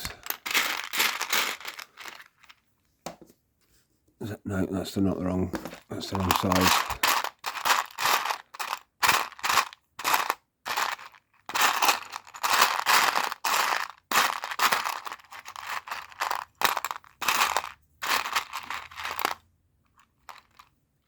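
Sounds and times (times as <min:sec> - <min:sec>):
plastic pieces rummaged by hand: 0:00.0 - 0:02.6, 0:05.6 - 0:19.4, 0:20.0 - 0:20.7.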